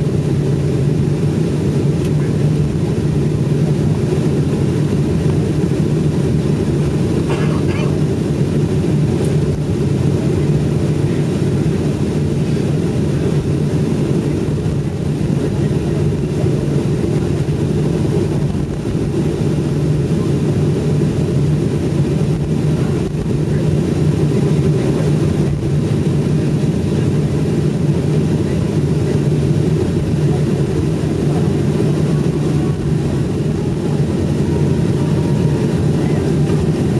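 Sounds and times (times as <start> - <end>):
airliner cabin engine rumble: 0.0 - 36.9.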